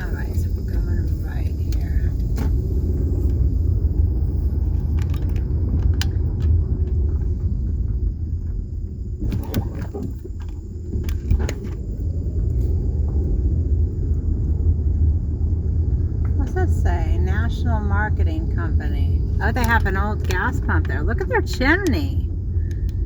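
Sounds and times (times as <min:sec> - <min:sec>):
car driving slowly: 0:00.0 - 0:23.0.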